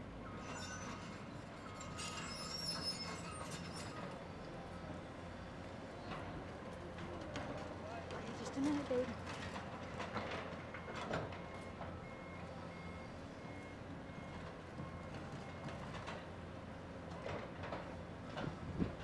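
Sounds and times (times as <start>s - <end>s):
excavator diesel engine running: 3.6s - 19.0s.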